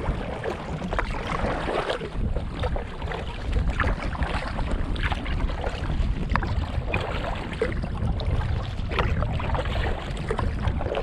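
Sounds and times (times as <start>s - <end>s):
water splashes from paddling: 0.0s - 11.0s
wind buffeting microphone: 0.0s - 11.0s.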